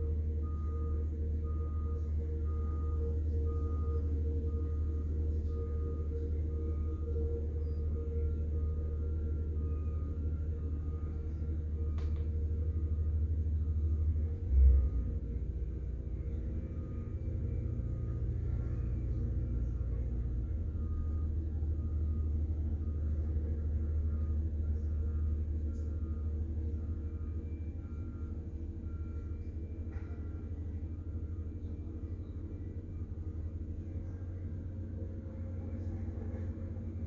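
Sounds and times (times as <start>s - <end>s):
faint repeating beeps: 0.0s - 37.0s
roller engine low rumble: 0.0s - 37.0s.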